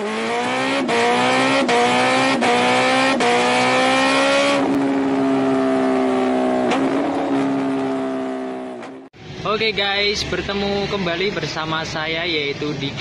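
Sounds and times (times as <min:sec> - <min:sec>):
racing car engine: 0:00.0 - 0:13.0.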